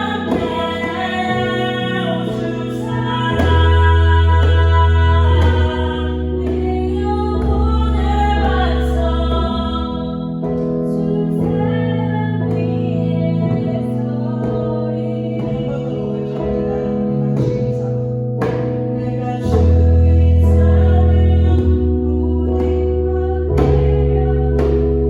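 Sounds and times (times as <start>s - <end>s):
deep bass note: 0.0s - 25.0s
person singing: 0.0s - 25.0s
sustained accompaniment chords: 0.0s - 25.0s.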